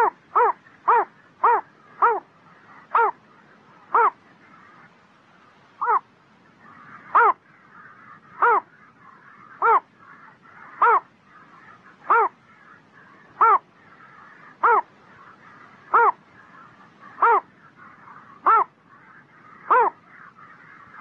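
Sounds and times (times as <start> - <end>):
heron calling harshly: 0.0 - 4.8, 5.8 - 6.1, 6.7 - 21.0.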